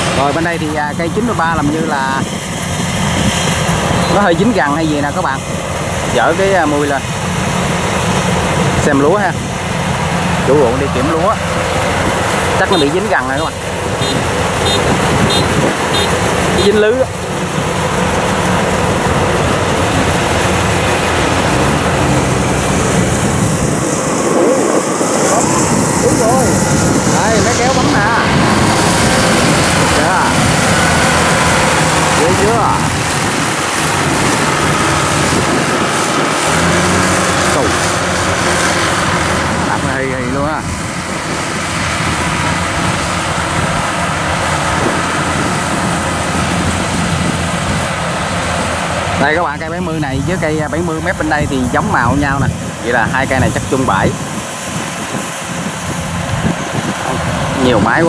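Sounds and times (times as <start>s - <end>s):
combine harvester diesel engine: 0.0s - 58.0s.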